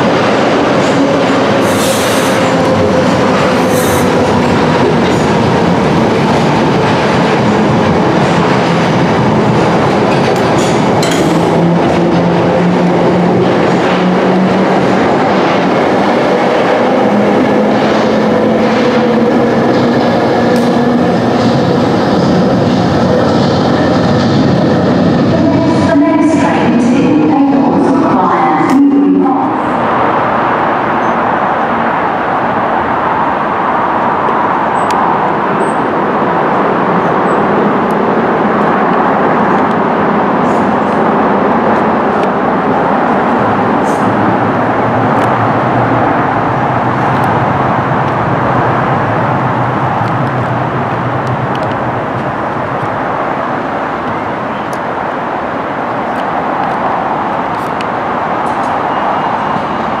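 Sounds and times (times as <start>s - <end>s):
road traffic: 0.0s - 26.2s, 26.8s - 60.0s
underground train hum: 0.0s - 60.0s.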